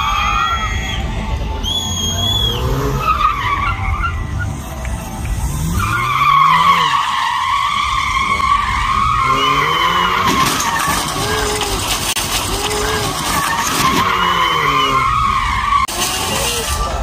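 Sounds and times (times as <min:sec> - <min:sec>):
tyres squealing on concrete: 0:00.0 - 0:04.8, 0:05.4 - 0:17.0
car engine revving: 0:01.6 - 0:17.0.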